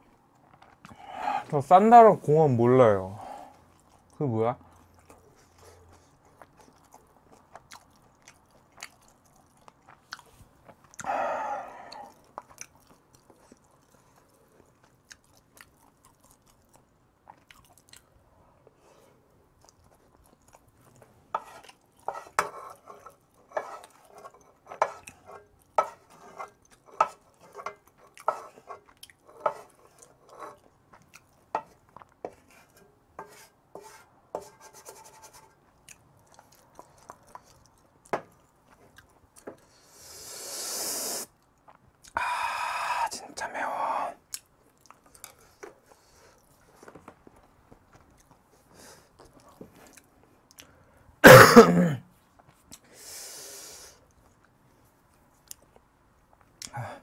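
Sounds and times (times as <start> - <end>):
person chewing food: 3.4 - 34.2, 35.5 - 40.0, 41.0 - 43.1, 43.9 - 51.0, 52.1 - 52.9, 53.9 - 56.8.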